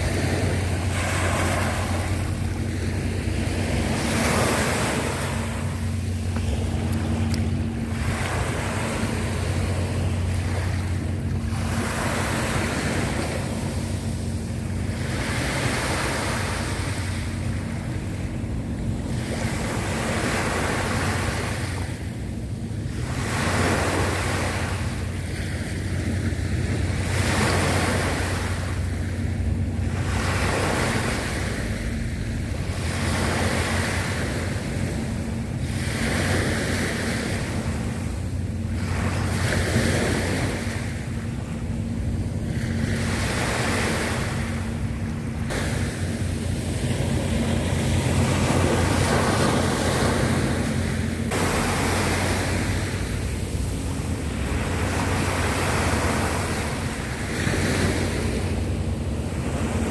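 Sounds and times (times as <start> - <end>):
sea waves washing in: 0.0 - 59.9
steady low hum: 0.0 - 59.9
wind on microphone: 0.0 - 59.9.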